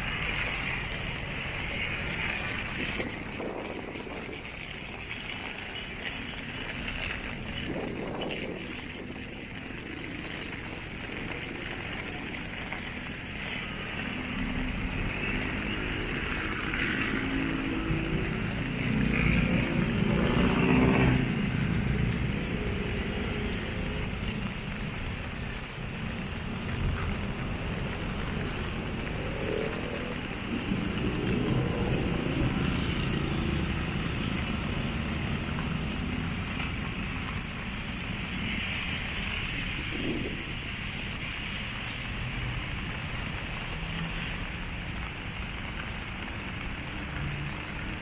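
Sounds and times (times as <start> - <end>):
rain and tyres hissing: 0.0 - 48.0
vehicle engine: 0.0 - 48.0.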